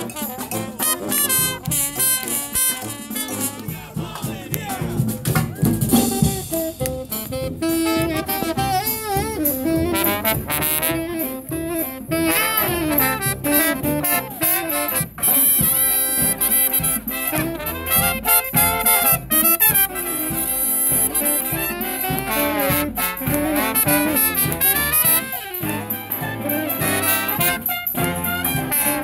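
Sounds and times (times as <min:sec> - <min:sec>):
brass marching band playing: 0:00.0 - 0:29.0
steady drum beat: 0:00.0 - 0:29.0.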